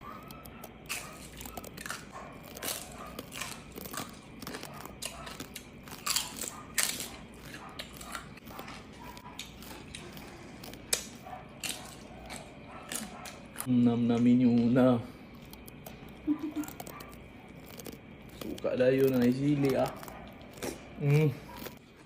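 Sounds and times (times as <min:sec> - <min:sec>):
chewing crispy pork skin: 0:00.0 - 0:22.0.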